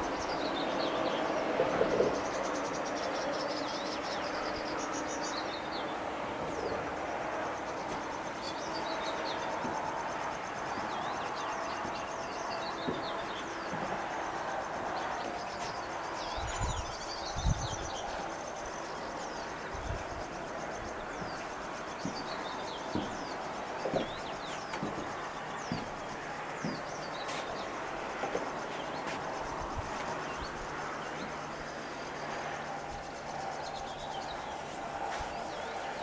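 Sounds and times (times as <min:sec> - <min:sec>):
small birds chirping: 0:00.0 - 0:36.0
steady rushing noise: 0:00.0 - 0:36.0.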